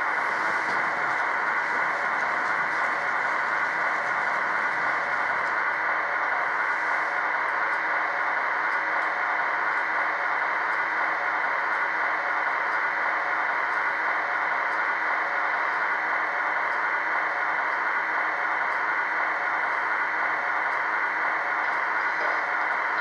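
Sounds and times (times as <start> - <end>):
blower fans hissing: 0.0 - 23.0.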